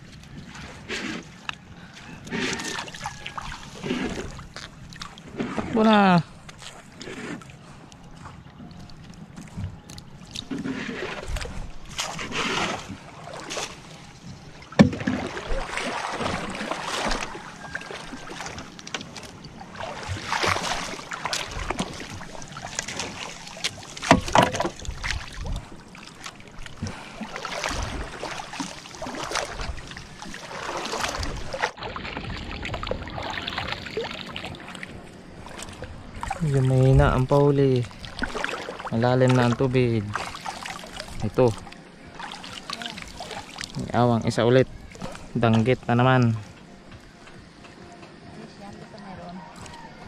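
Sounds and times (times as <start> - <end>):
seawater sloshing and splashing: 0.0 - 50.0.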